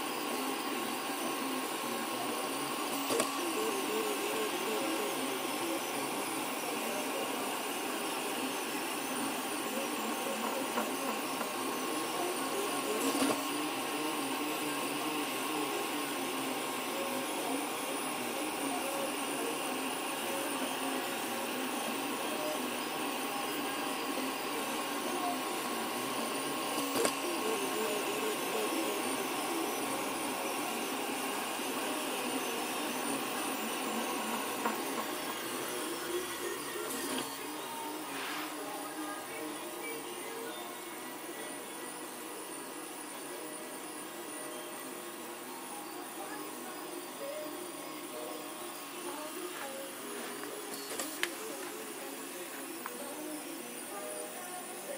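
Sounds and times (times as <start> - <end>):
printer stepper motors whirring: 0.0 - 54.9.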